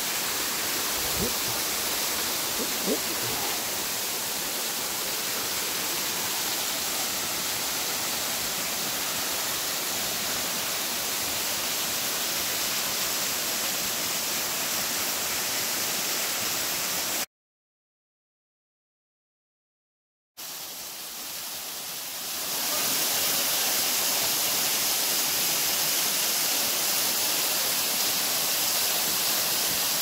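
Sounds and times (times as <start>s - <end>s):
waterfall rushing: 0.0s - 16.0s, 21.9s - 30.0s.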